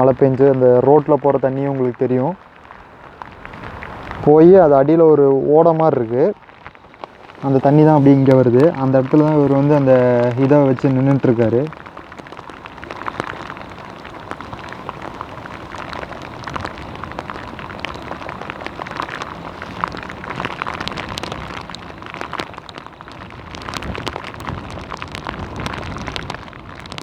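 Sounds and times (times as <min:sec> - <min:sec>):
rain drops pattering: 0:00.0 - 0:27.0
running stream water: 0:00.0 - 0:27.0.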